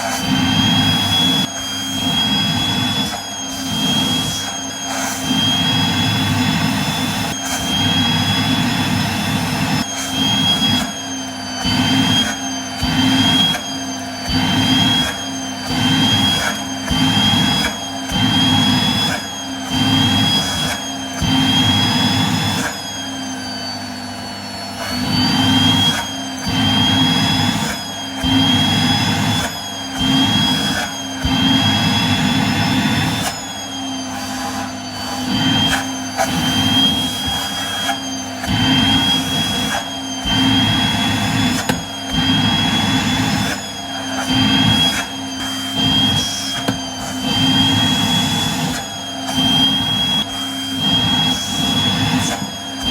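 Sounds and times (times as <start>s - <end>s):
vacuum cleaner motor whine: 0.0s - 52.9s
vacuum suction noise: 0.0s - 52.9s.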